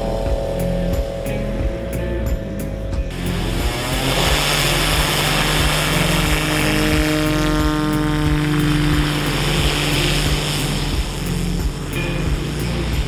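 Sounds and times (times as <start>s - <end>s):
propeller airplane engine running: 0.0s - 13.0s.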